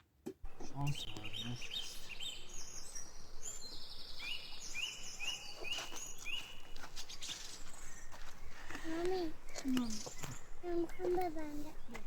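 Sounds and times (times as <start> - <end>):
small birds chirping: 0.4 - 12.0
steady background hiss: 0.5 - 12.0.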